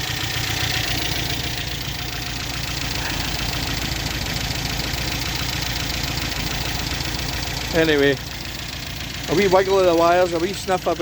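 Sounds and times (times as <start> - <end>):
car engine fast idle: 0.0 - 11.0.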